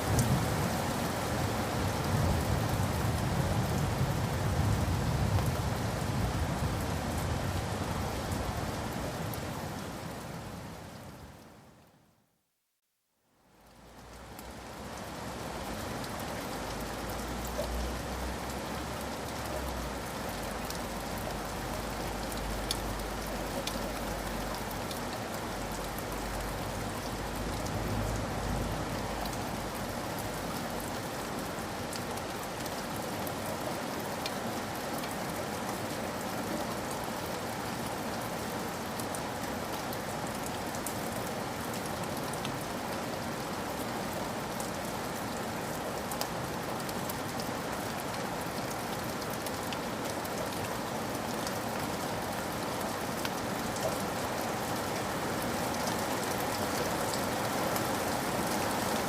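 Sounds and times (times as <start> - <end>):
steady rain with drop taps: 0.0 - 59.0.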